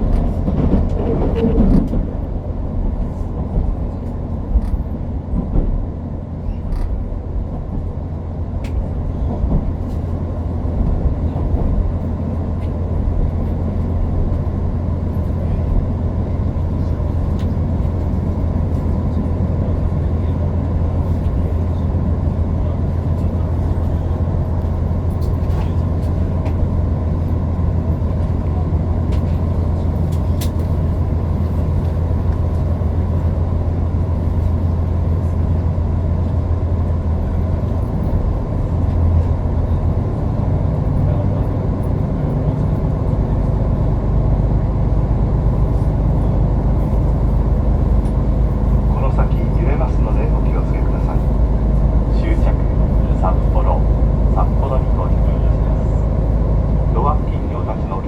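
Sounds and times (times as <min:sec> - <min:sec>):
train running inside carriage: 0:00.0 - 0:58.0.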